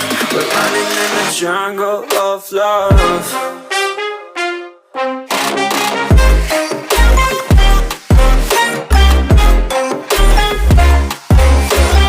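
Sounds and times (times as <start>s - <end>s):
pop music with heavy bass: 0.0s - 4.4s, 5.0s - 12.0s.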